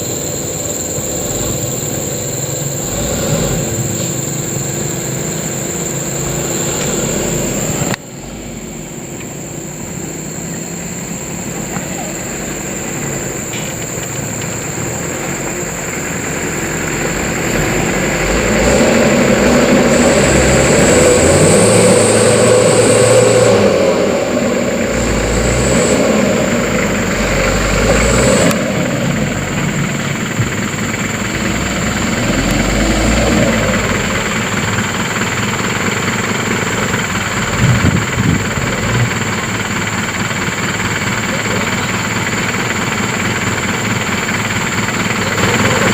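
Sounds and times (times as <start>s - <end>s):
diesel truck engine working hard: 0.0s - 45.9s.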